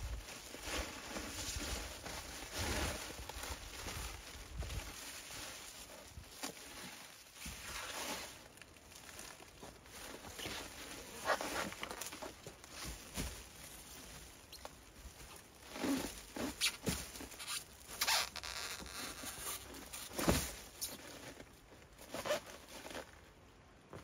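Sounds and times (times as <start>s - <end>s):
plastic wrap crinkling: 0.0s - 23.1s.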